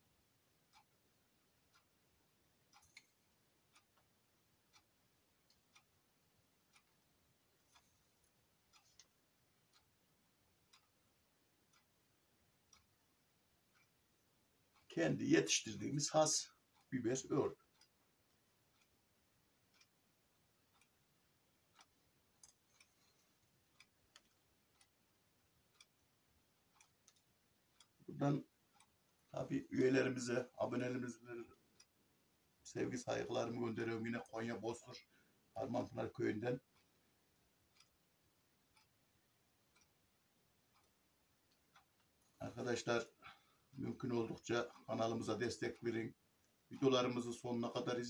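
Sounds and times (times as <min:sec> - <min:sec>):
clock ticking: 0:00.0 - 0:48.0
faint clicks: 0:00.6 - 0:32.0, 0:32.6 - 0:48.0.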